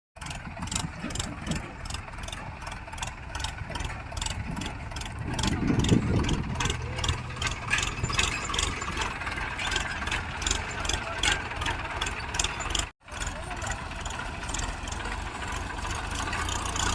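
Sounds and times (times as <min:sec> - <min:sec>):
diesel engine idling: 0:00.2 - 0:16.9
regular ticking: 0:00.2 - 0:16.9.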